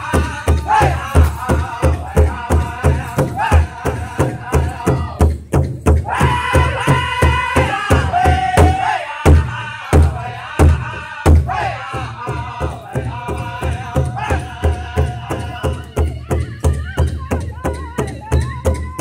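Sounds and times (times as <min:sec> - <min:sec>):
high-pitched group singing: 0:00.0 - 0:05.3, 0:06.0 - 0:19.0
large drum beating: 0:00.0 - 0:19.0.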